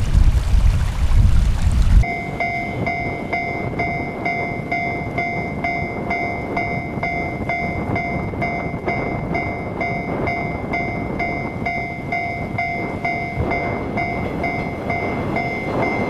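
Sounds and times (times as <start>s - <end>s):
loud low rumble: 0.0s - 16.0s
level crossing bell ringing: 2.0s - 16.0s.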